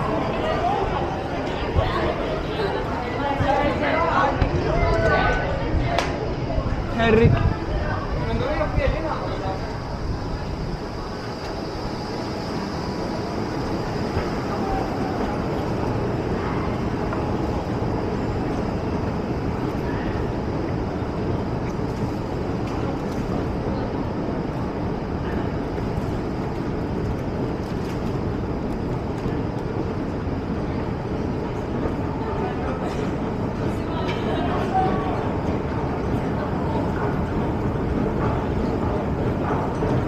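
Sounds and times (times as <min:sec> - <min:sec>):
machinery and ventilation rumble: 0:00.0 - 0:40.0.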